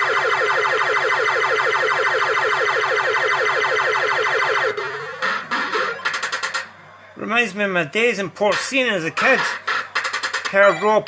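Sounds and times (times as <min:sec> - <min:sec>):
rapid electronic chirps: 0:00.1 - 0:06.7, 0:08.5 - 0:10.8.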